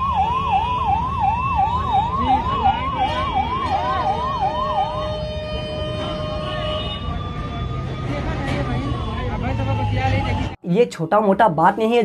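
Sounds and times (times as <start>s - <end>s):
ambulance siren sweeping: 0.0s - 10.6s.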